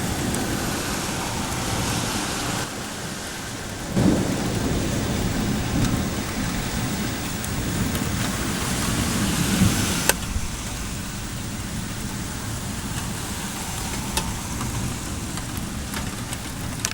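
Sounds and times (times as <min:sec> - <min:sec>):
low thunder rumble: 0:00.0 - 0:16.9
steady rain hiss: 0:00.0 - 0:16.9.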